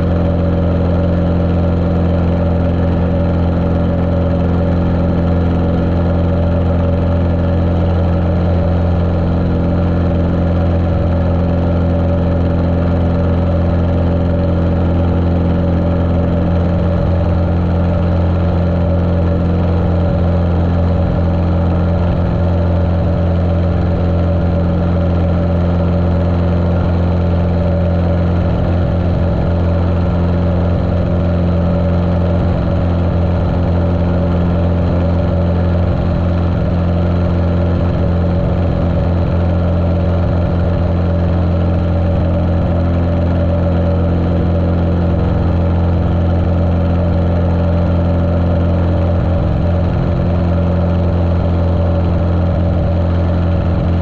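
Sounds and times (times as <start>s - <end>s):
muffled aircraft engine drone: 0.0s - 54.0s.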